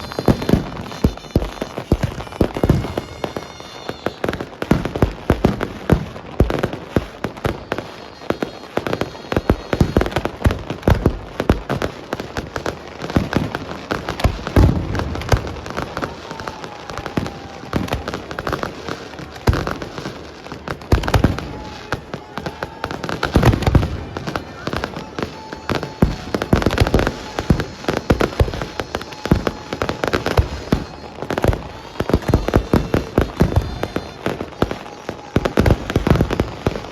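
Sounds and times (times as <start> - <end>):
fireworks bangs and cracks: 0.0 - 36.9.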